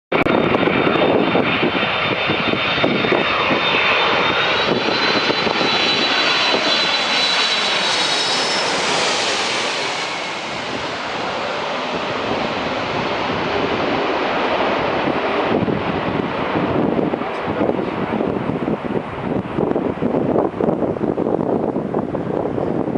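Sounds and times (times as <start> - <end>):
jet plane passing overhead: 0.1 - 22.9.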